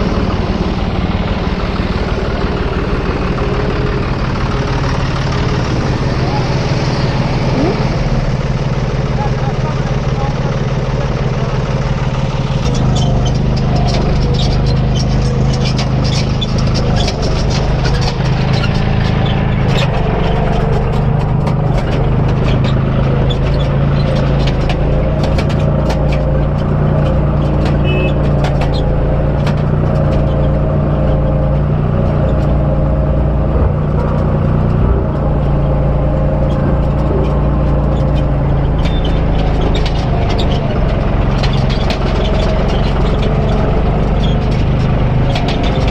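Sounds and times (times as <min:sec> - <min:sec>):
diesel engine running under load: 0:00.0 - 0:45.9
sharp knocks and clatters: 0:08.6 - 0:45.9.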